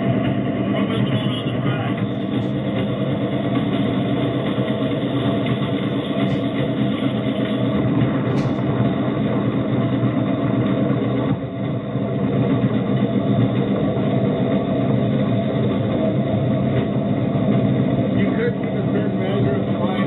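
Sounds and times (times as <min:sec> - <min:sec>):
engine running steadily: 0:00.0 - 0:20.0
steel wheels rolling on rails: 0:00.0 - 0:20.0.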